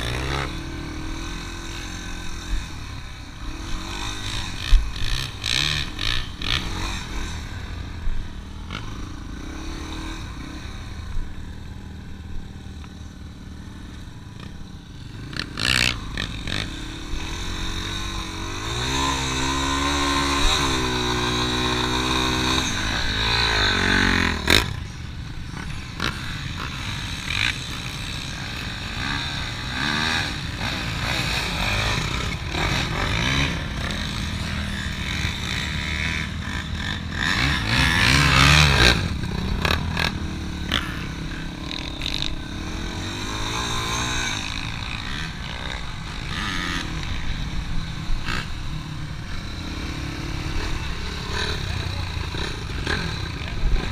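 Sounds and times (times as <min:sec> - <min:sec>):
dirt bike engine revving: 0:00.0 - 0:53.9
noisy rush: 0:00.0 - 0:53.9.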